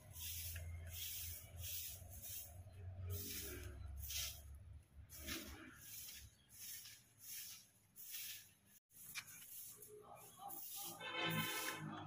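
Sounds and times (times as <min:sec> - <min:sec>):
scraping strokes: 0:00.0 - 0:12.0.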